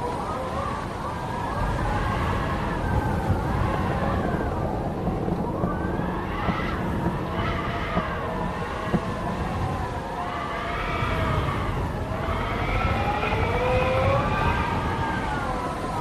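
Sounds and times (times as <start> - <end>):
howling wind: 0.0 - 16.0.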